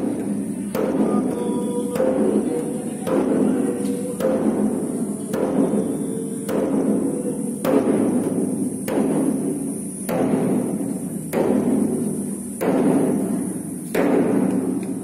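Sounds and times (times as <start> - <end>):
drum struck at slow beat: 0.0 - 15.0.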